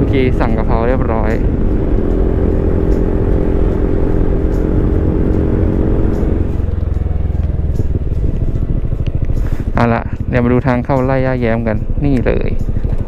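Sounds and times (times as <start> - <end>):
low rumble: 0.0 - 13.0
scooter engine tone: 0.0 - 13.0.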